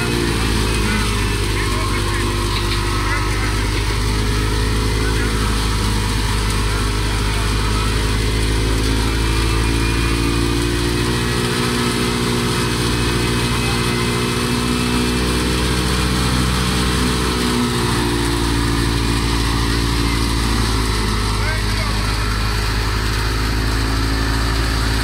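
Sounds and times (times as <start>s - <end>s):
wheat thresher running: 0.0s - 25.0s.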